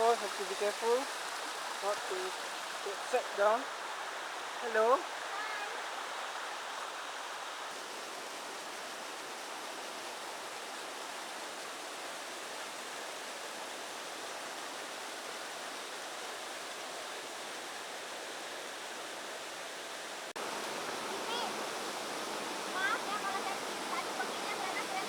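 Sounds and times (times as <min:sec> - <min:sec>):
stream and waterfall rushing: 0:00.0 - 0:25.0.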